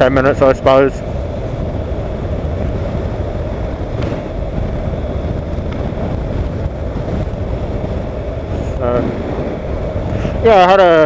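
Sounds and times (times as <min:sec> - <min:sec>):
motorcycle engine: 0:00.0 - 0:11.0
wind on microphone: 0:00.0 - 0:11.0.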